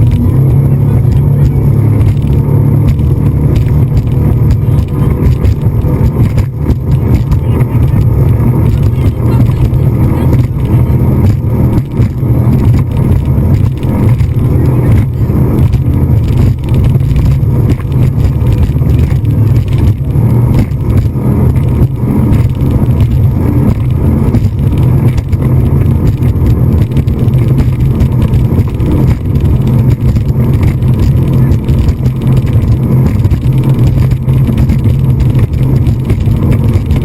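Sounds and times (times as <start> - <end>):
speedboat engine droning: 0.0 - 37.0.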